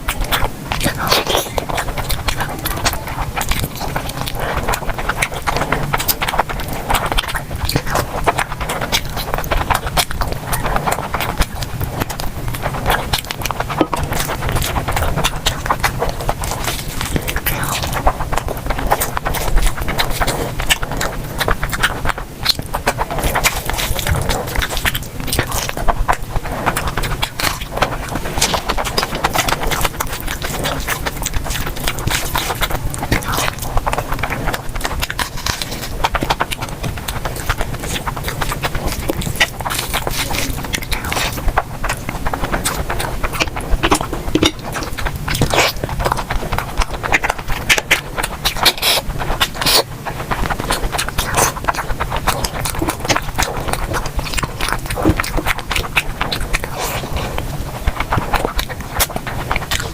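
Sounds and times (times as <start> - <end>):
chewing and mouth smacks: 0.0 - 59.9.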